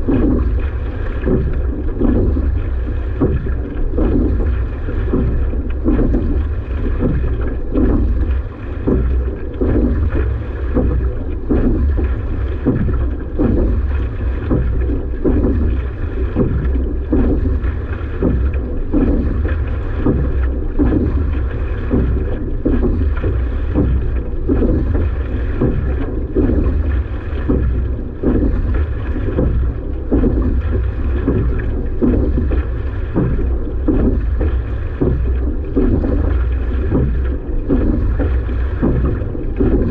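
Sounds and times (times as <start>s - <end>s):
rowing strokes: 0.0s - 39.9s.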